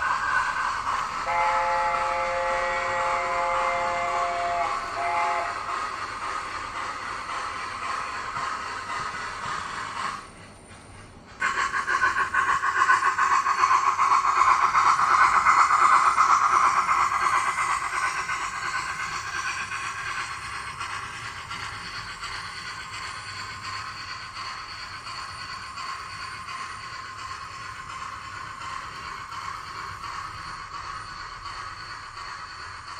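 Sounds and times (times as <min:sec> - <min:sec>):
model steam locomotive sounds: 0:00.0 - 0:32.9
model wheels on track: 0:00.0 - 0:32.9.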